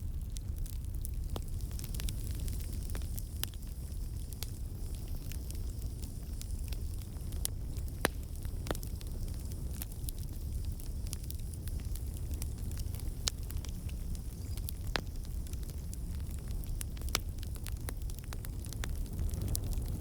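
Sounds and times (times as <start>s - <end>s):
burning wood crackling and popping: 0.0s - 20.0s
low rumble of flames: 0.0s - 20.0s.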